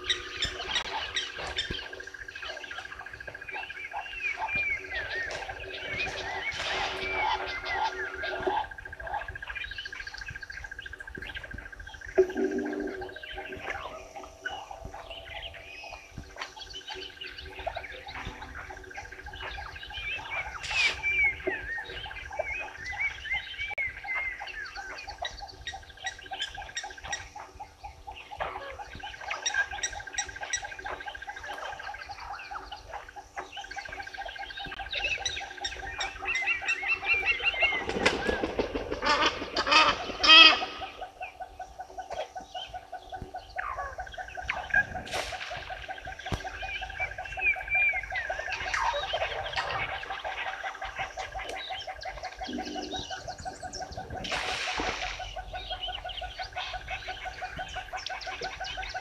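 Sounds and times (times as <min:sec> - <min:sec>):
birds singing and chirping: 0:00.0 - 0:59.0
harsh rapid bird calls: 0:00.0 - 0:59.0.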